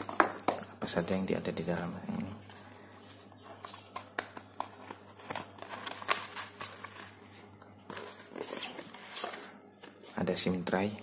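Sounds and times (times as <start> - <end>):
cardboard and paper rustling: 0.0 - 1.4, 2.3 - 10.5.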